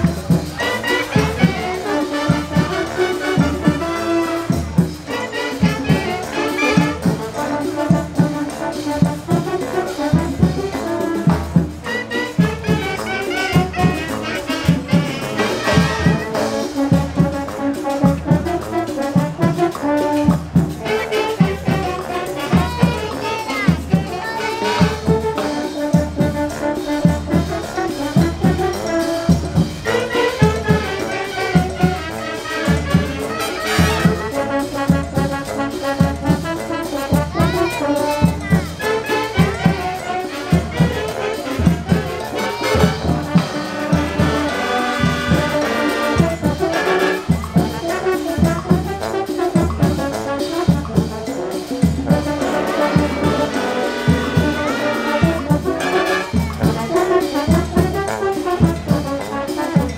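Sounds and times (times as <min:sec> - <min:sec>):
brass music: 0:00.0 - 0:59.9.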